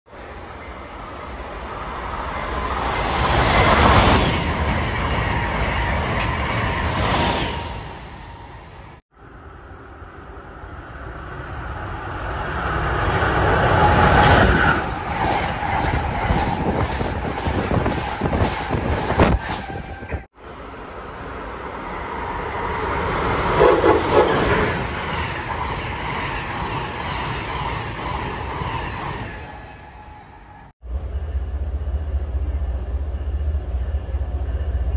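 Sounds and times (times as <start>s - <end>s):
high-speed train passing: 0.1s - 34.9s.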